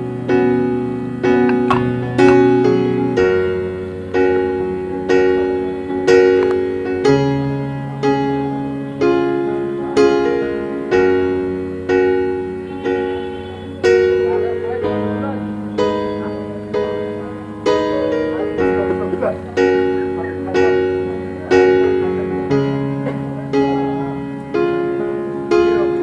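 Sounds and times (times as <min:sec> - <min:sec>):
soft piano music: 0:00.0 - 0:26.0.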